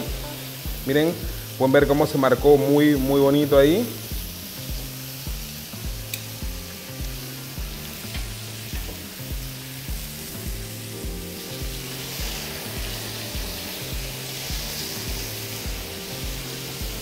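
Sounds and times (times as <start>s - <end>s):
background music with steady beat: 0.0s - 17.0s
chicken sizzling on grill pan: 0.0s - 17.0s.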